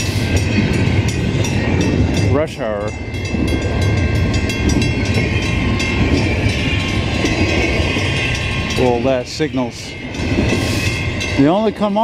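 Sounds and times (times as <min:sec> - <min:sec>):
freight train rumbling: 0:00.0 - 0:12.0
high steady ringing tone: 0:00.0 - 0:12.0
rail clicks: 0:00.0 - 0:12.0.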